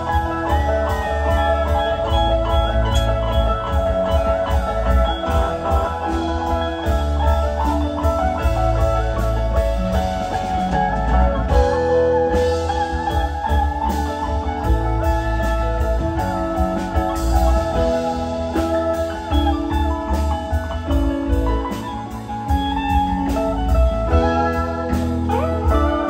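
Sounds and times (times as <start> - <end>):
drum kit beat: 0.0 - 26.0
electric guitars: 0.0 - 26.0
keyboard: 0.0 - 26.0
pedal steel guitar: 0.0 - 26.0.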